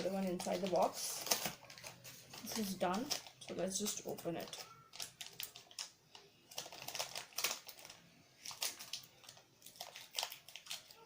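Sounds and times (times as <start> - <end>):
packaging crackling and rustling: 0.0 - 11.0.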